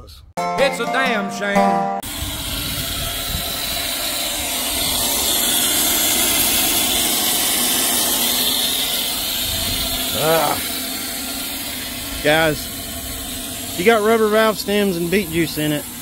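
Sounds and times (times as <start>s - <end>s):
liquid and air hissing from valve: 2.0s - 16.0s.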